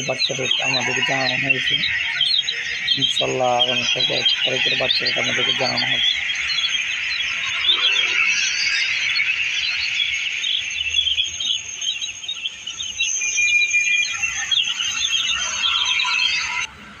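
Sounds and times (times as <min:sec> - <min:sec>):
chicks peeping: 0:00.0 - 0:16.7.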